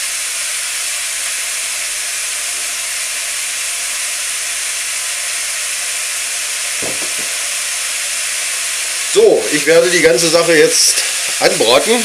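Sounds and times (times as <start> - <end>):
meat and onions sizzling in oil: 0.0 - 12.0.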